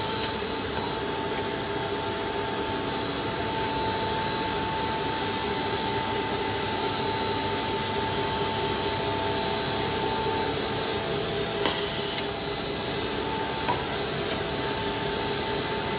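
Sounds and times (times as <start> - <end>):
steady machine whine: 0.0 - 15.9.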